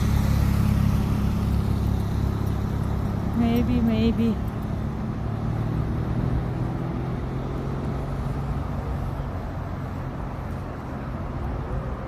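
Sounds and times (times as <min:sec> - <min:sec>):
traffic noise: 0:00.0 - 0:12.0
vehicle engine humming: 0:00.0 - 0:12.0.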